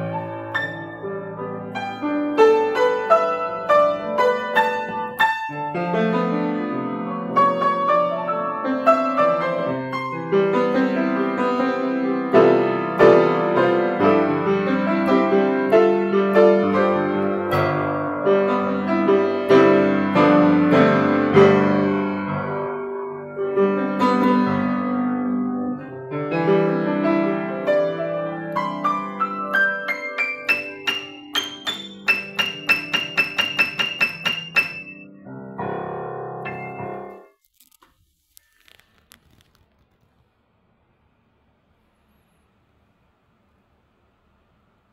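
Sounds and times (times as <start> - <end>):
grand piano solo: 0.0 - 37.4.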